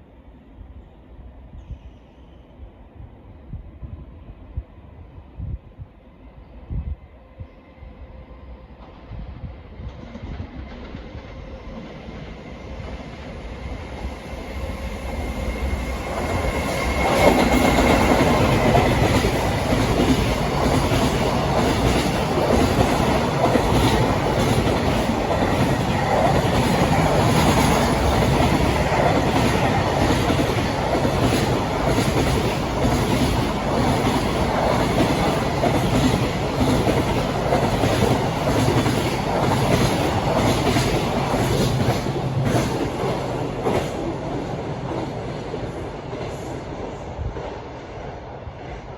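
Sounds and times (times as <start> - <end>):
freight train rumbling: 0.0 - 48.9.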